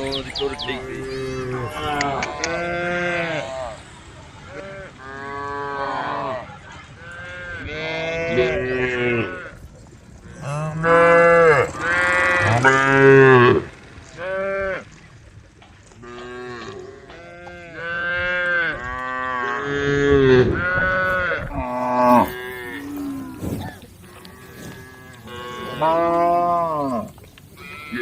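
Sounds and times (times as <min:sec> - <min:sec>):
cattle mooing: 0:00.0 - 0:03.8, 0:04.5 - 0:09.6, 0:10.2 - 0:15.0, 0:16.0 - 0:28.0.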